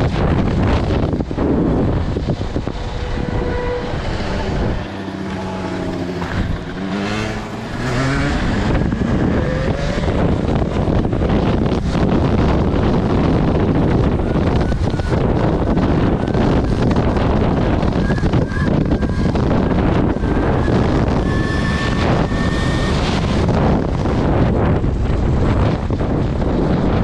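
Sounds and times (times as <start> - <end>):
motorcycle engine drone: 0.0 - 27.0
wind buffeting microphone: 0.0 - 27.0.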